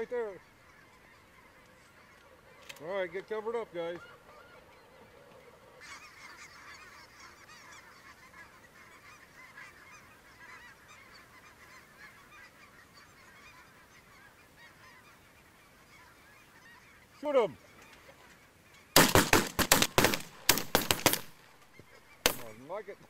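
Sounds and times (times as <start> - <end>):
geese calling: 0.0 - 23.0.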